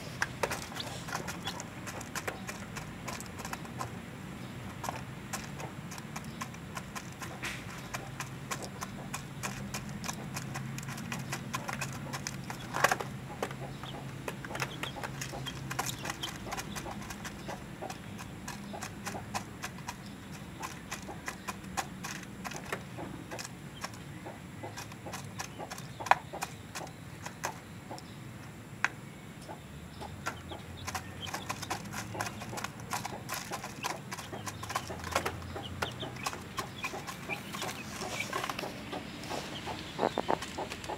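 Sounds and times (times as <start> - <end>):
chickens pecking at plastic feeder: 0.0 - 29.0, 30.0 - 40.9
chicks stepping on plastic tray: 0.0 - 40.9.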